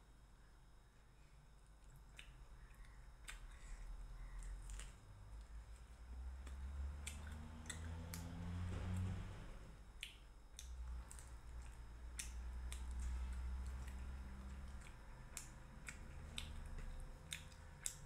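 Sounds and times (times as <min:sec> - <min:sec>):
low steady hum: 0:00.0 - 0:18.0
chewing with wet lip smacks: 0:01.8 - 0:08.6, 0:10.0 - 0:18.0.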